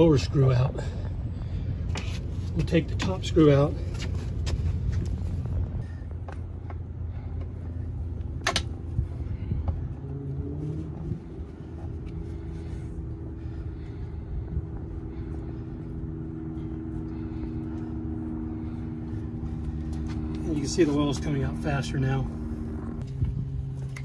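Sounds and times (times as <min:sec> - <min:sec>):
hum of steady tones: 0:00.0 - 0:24.0
low mechanical rumble: 0:00.0 - 0:24.0.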